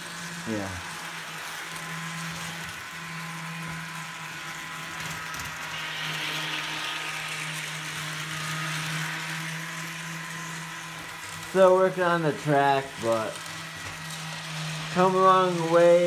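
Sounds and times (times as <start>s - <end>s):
gear and wheel whir: 0.0s - 16.0s
model train motor hum: 0.0s - 16.0s.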